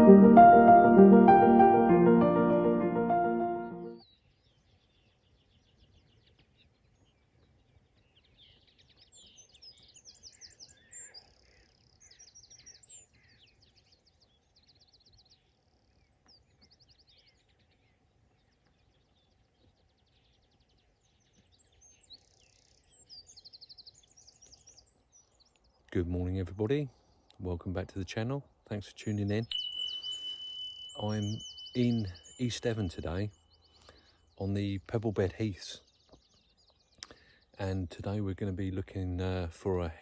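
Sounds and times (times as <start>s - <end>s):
songbirds singing: 3.9s - 40.0s.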